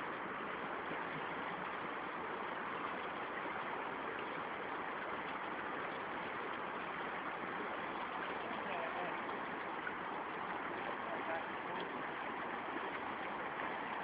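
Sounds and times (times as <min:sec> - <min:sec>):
shallow river water flowing: 0:00.0 - 0:14.0.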